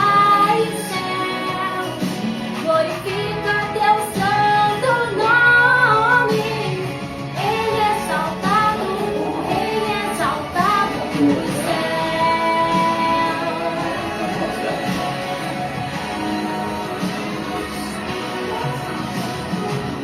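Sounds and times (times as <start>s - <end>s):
worship song with singing: 0.0s - 20.0s.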